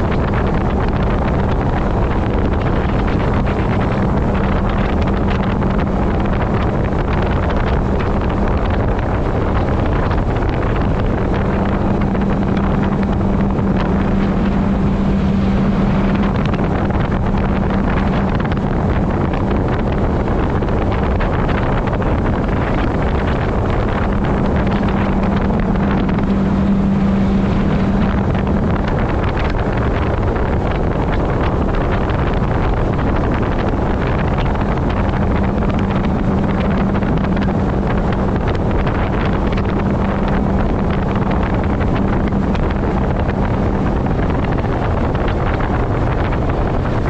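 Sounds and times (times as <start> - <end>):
rushing water: 0.0 - 47.0
speedboat engine drone: 0.0 - 47.0
wind buffeting microphone: 0.0 - 47.0.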